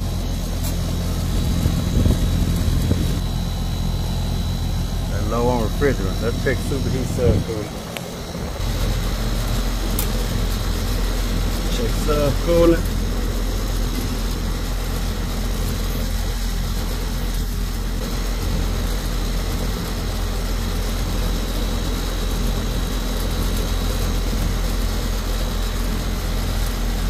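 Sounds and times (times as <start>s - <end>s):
compressor low hum: 0.0s - 27.0s
condenser fan noise: 0.0s - 27.0s.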